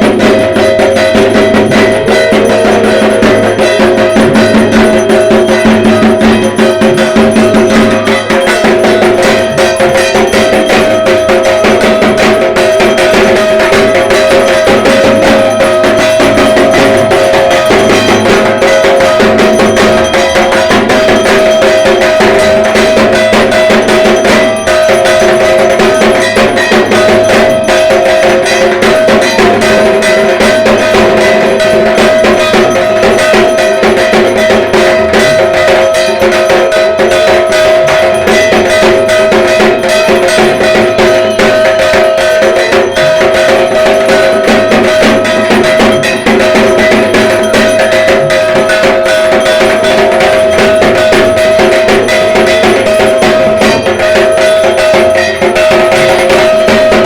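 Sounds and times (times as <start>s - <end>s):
barrel drum beaten with sticks: 0.0s - 57.0s
metallic ringing: 0.0s - 57.0s.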